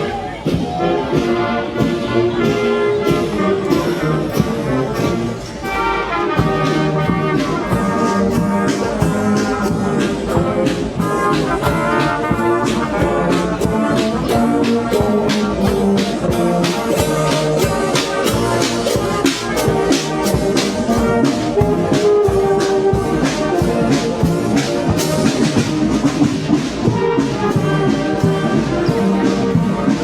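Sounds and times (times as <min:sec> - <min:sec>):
steady drum beat: 0:00.0 - 0:30.0
trumpets and trombones: 0:00.0 - 0:30.0.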